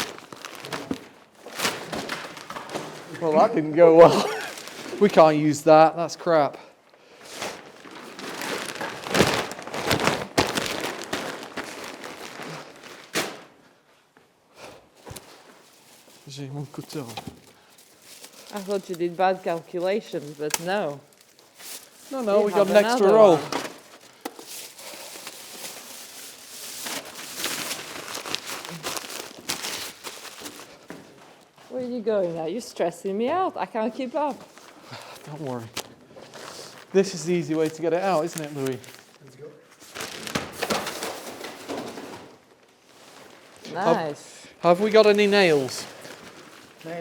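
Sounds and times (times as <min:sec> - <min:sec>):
plastic sheeting rustling and crackling: 0:00.0 - 0:06.4, 0:07.0 - 0:13.9, 0:14.6 - 0:47.0.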